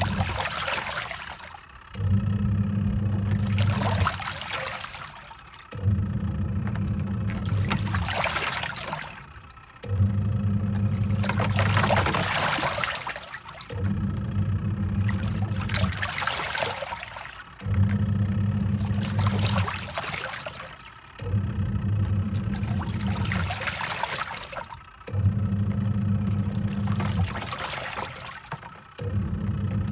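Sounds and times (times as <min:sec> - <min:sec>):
washing machine motor humming: 0:00.0 - 0:29.9
water sloshing: 0:00.0 - 0:29.9.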